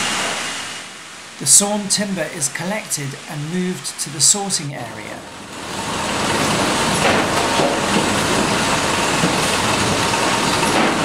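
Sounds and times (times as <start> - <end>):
conveyor machinery running: 0.0 - 11.0.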